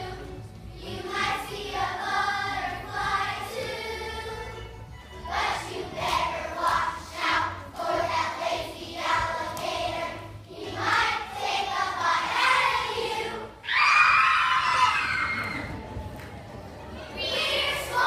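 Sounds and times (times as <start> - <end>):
children's choir singing: 0.0 - 18.0.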